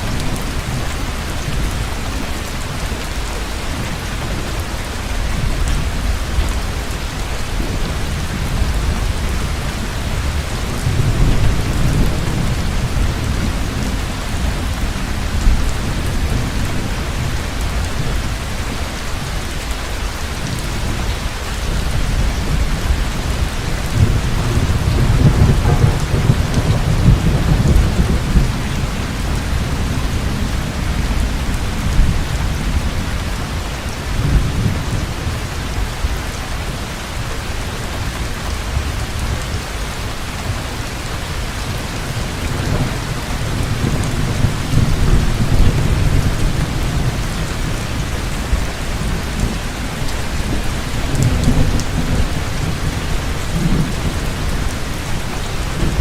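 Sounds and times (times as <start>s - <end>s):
heavy rain falling: 0.0s - 56.0s
deep thunder rumbling: 3.8s - 18.9s, 20.4s - 36.6s, 38.0s - 56.0s.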